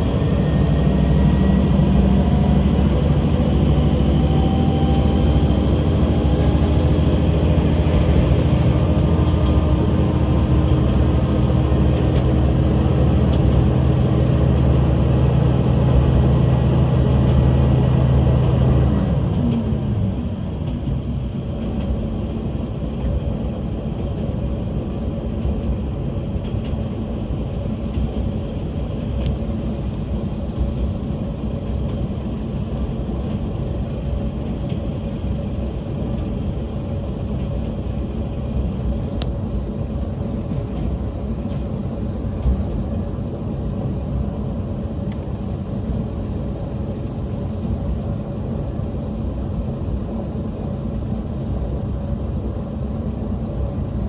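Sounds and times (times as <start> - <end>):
railcar engine and wheels rumbling: 0.0 - 54.0.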